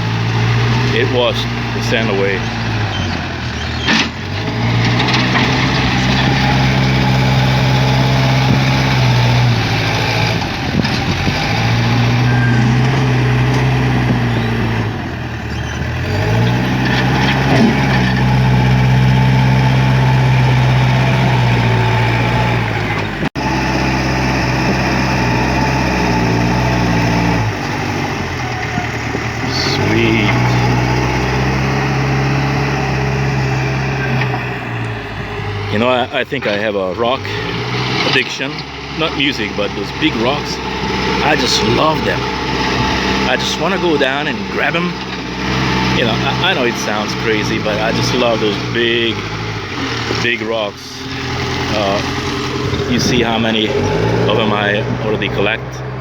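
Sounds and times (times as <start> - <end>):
backhoe diesel engine under load: 0.0 - 56.0.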